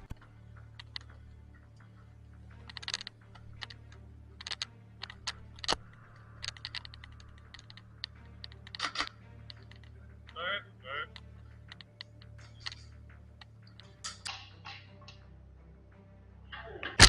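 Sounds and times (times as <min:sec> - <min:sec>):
sharp clicks and clacks: 0:00.0 - 0:10.4, 0:11.0 - 0:15.2
steady low hum: 0:00.0 - 0:16.5.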